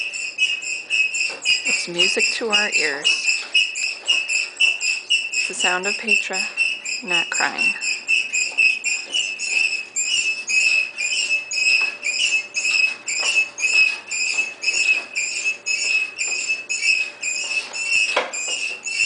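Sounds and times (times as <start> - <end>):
rocking horse squeaking: 0.0 - 19.0.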